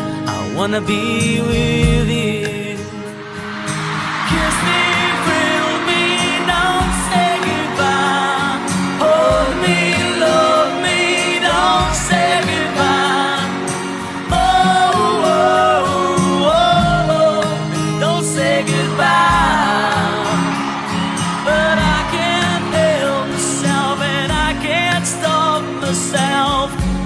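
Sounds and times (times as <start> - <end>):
guitar and band: 0.0 - 27.0
person singing: 0.3 - 27.0.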